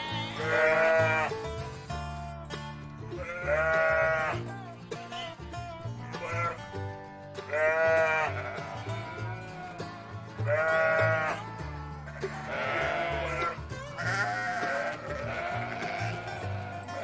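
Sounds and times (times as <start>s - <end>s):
sheep bleating: 0.0s - 2.4s, 3.1s - 4.7s, 6.0s - 6.8s, 7.5s - 17.0s
background music with bass line: 0.0s - 17.0s.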